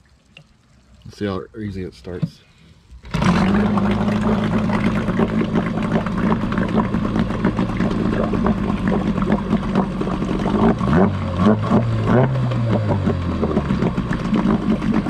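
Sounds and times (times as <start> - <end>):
outboard motor idling: 2.0 - 15.0.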